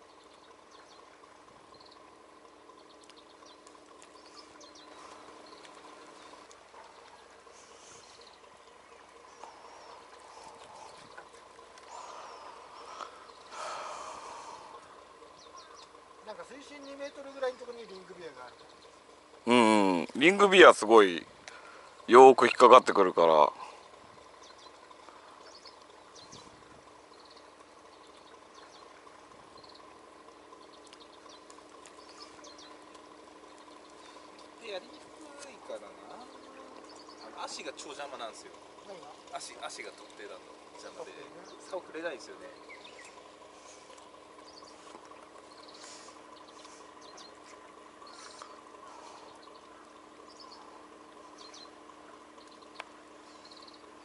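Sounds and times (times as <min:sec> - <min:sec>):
bird calls: 0:00.0 - 0:54.0
faint steady hum: 0:00.0 - 0:54.0.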